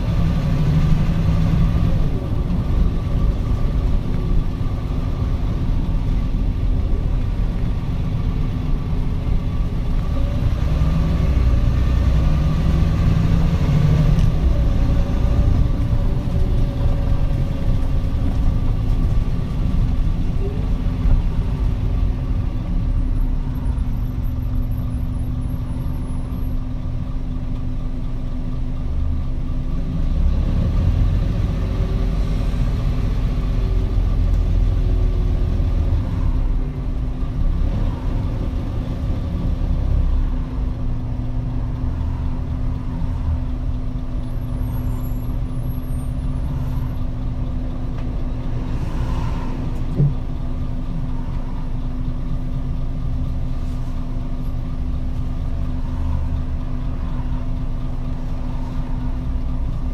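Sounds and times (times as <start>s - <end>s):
bus diesel engine drone: 0.0s - 59.9s
road noise: 0.0s - 59.9s.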